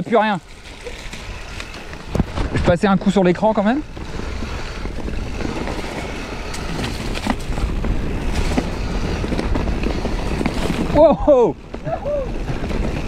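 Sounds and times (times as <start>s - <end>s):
bike clicks and rattles: 0.0s - 13.0s
tyre noise on dirt: 0.0s - 13.0s
wind over camera: 0.0s - 13.0s.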